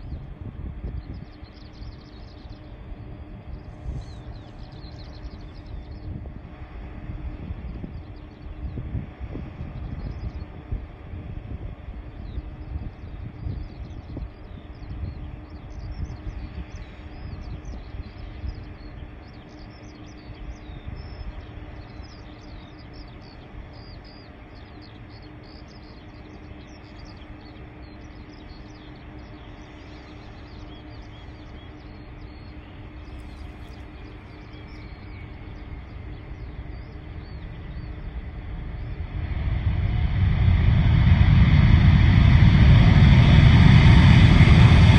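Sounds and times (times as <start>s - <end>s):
small birds chirping: 0.0s - 40.7s
distant jet engine rumble: 0.0s - 44.9s.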